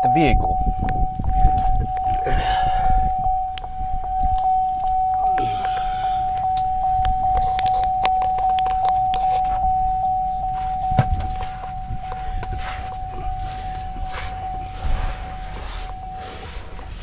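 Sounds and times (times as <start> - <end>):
vehicle warning chime dinging: 0.0 - 17.0.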